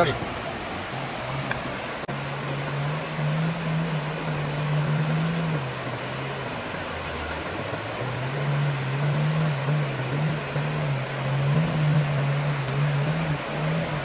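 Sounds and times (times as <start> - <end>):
boat motor hum: 0.0 - 14.0
rushing rapids: 0.0 - 14.0.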